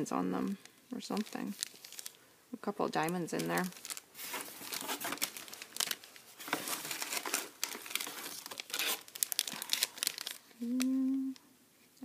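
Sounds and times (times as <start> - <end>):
plastic packaging crinkling: 0.4 - 2.2, 2.8 - 10.9.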